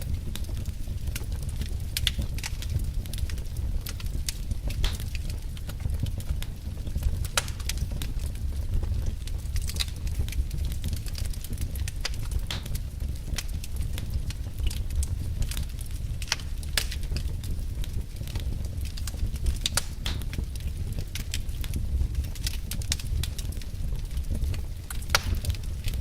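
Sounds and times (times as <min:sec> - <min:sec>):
logs burning and crackling: 0:00.0 - 0:26.0
steady low rumble: 0:00.0 - 0:26.0.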